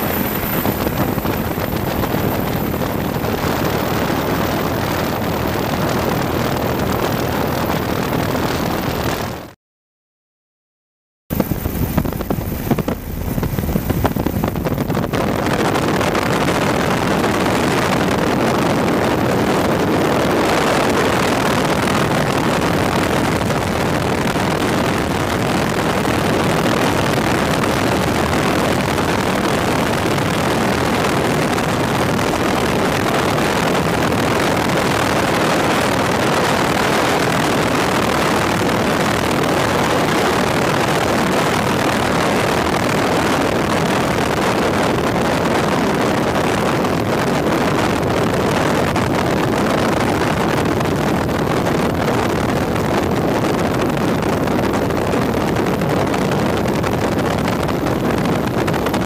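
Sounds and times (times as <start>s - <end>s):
helicopter in flight: 0.0s - 9.6s, 11.3s - 59.0s.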